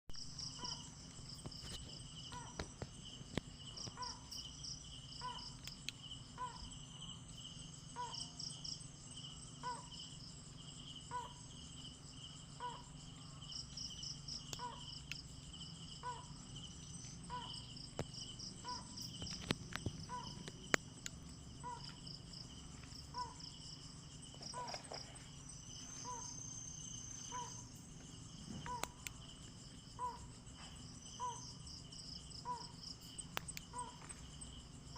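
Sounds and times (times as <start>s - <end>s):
crickets and insects trilling: 0.1s - 34.9s
repeated animal call: 0.3s - 2.8s, 3.7s - 7.1s, 7.8s - 8.8s, 9.5s - 10.2s, 11.0s - 34.3s.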